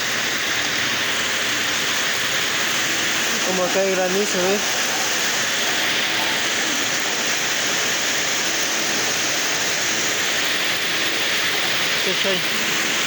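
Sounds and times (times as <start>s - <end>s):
heavy rain and hail: 0.0s - 13.0s.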